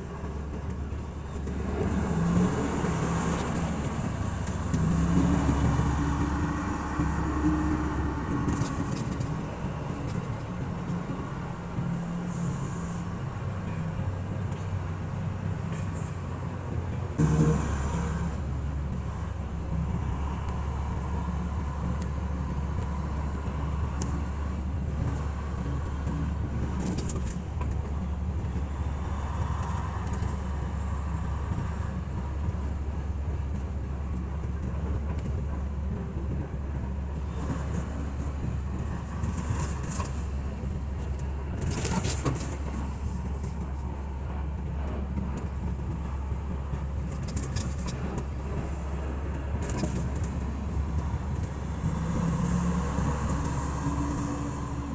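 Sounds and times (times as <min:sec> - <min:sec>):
truck engine drone and road noise: 0:00.0 - 0:54.9.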